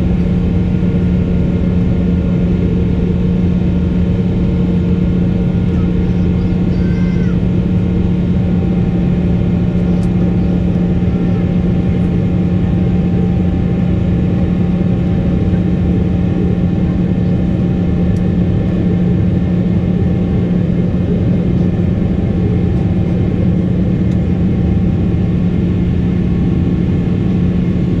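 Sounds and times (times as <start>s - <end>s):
constant low hum: 0.0s - 28.0s
jet cabin engine noise: 0.0s - 28.0s.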